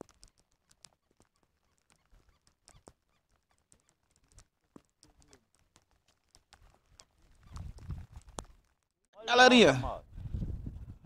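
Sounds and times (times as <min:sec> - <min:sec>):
raindrops ticking on camera: 0:00.0 - 0:09.0.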